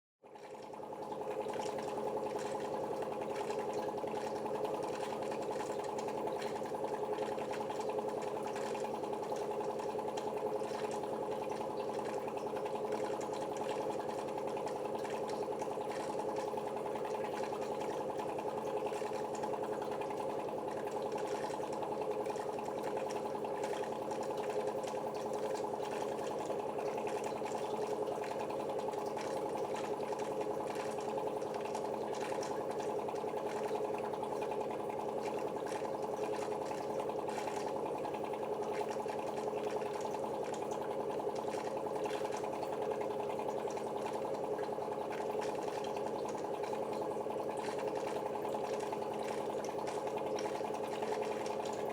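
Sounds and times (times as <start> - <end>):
water purifier pump humming: 0.2 - 51.9.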